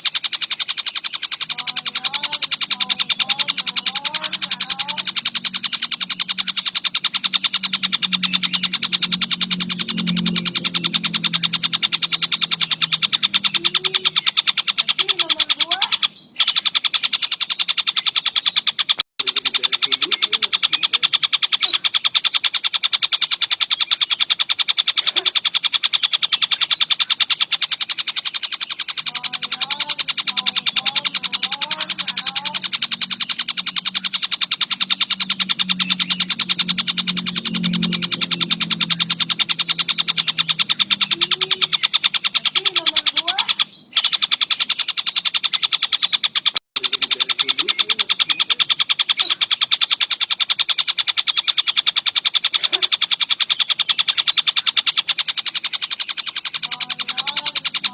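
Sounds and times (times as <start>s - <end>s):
bird trilling: 0.0s - 57.9s
faint low chirps: 0.0s - 57.9s.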